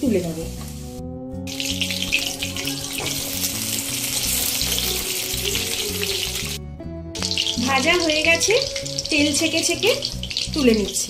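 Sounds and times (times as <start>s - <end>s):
food sizzling in hot oil: 0.0s - 6.6s, 7.2s - 11.0s
background music: 0.0s - 11.0s.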